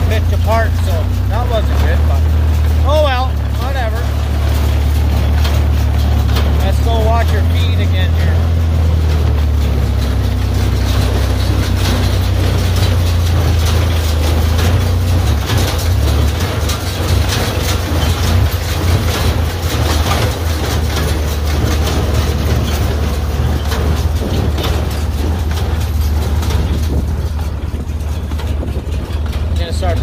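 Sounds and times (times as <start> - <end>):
baler mechanism knocking: 0.0 - 30.0
tractor engine drone: 0.0 - 30.0.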